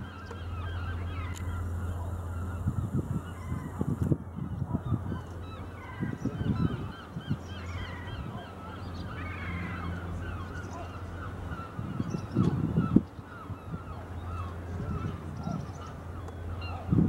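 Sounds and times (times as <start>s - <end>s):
gulls squawking: 0.0s - 17.0s
steady low hum: 0.0s - 17.0s.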